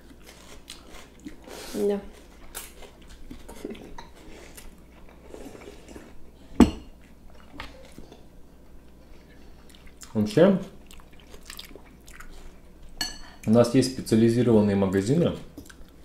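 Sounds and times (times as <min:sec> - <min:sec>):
quiet chewing: 0:00.0 - 0:06.2, 0:07.0 - 0:13.4, 0:15.5 - 0:16.0.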